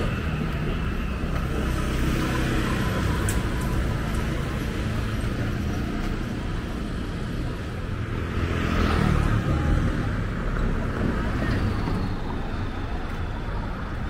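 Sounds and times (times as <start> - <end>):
street traffic engines: 0.0 - 14.0.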